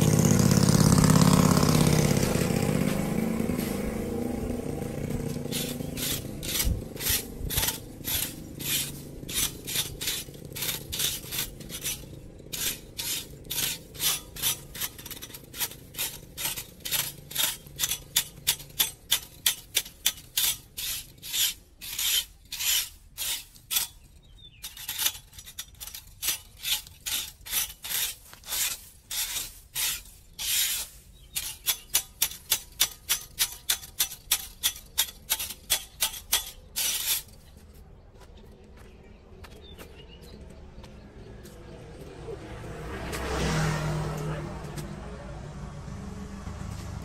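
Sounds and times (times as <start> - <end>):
rake scraping on concrete: 0.0 - 38.0.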